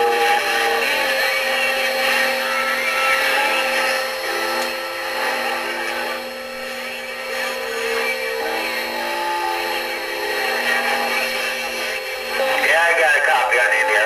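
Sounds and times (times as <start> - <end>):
radio static hiss: 0.0 - 14.0
radio whistling tones: 0.0 - 14.0.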